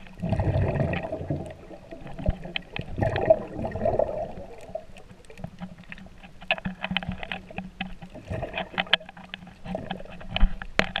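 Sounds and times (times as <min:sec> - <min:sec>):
muffled underwater water movement: 0:00.0 - 0:11.0
underwater clicks and knocks: 0:00.0 - 0:11.0.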